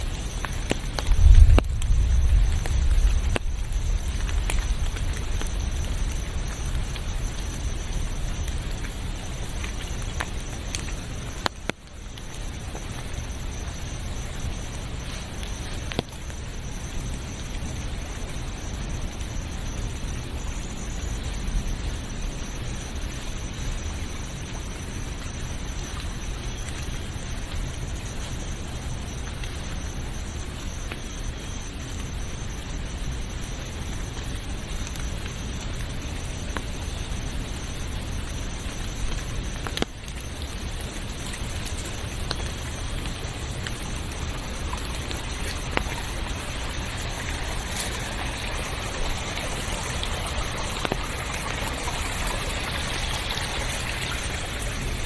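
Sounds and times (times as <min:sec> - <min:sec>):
rain hissing: 0:00.0 - 0:55.0.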